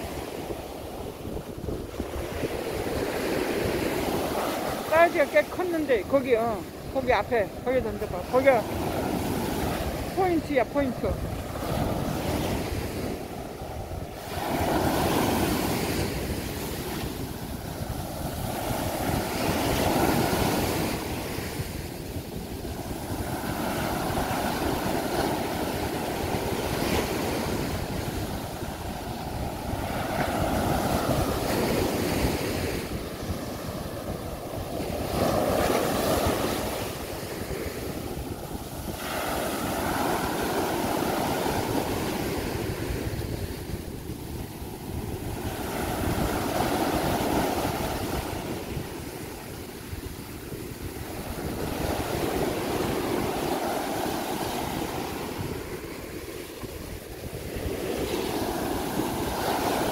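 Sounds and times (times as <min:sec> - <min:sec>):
surf breaking on a beach: 0:00.0 - 0:59.9.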